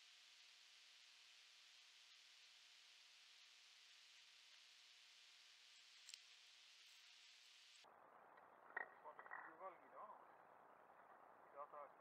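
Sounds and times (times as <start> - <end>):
faint camera hiss: 0.0 - 12.0.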